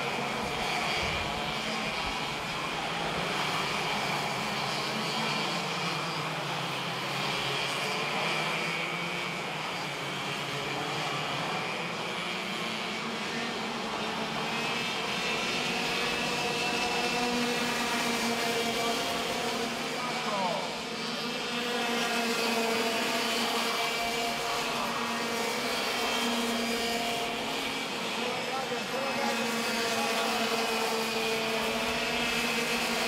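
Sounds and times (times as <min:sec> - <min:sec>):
racing kart engines: 0:00.0 - 0:33.0.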